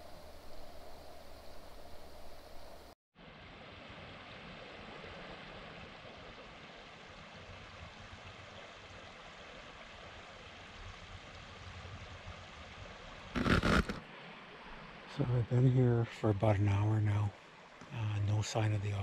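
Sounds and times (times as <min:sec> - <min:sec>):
creek water rushing: 0:02.5 - 0:19.0.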